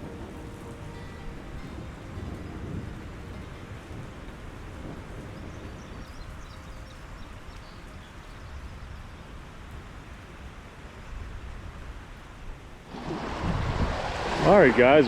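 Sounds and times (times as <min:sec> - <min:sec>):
thunder rumble: 0:00.0 - 0:09.9, 0:12.8 - 0:15.0
even rain hiss: 0:00.0 - 0:15.0.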